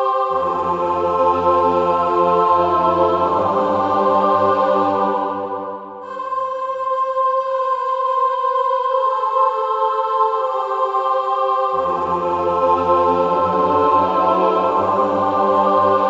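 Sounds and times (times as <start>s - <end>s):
slow music of held chords: 0.0s - 16.0s.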